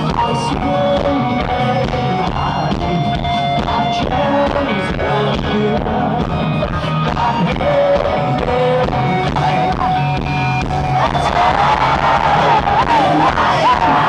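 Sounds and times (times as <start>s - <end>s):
bass: 0.0s - 14.0s
drums: 0.0s - 14.0s
electric guitar: 0.0s - 14.0s.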